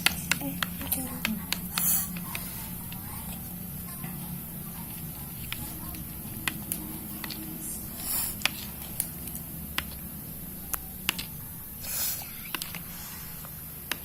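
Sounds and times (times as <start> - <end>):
hissy slime squishes: 0.0 - 14.0.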